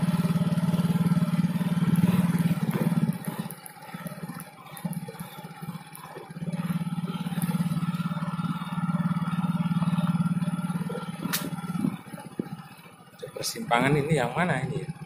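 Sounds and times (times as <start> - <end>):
small motorcycle engine: 0.0 - 15.0.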